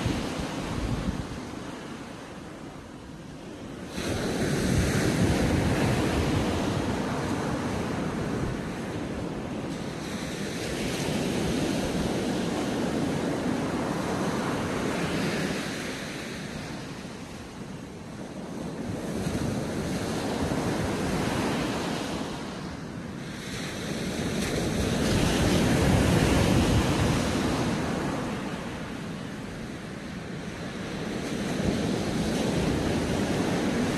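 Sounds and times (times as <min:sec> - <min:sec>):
surf breaking on a beach: 0:00.0 - 0:33.9.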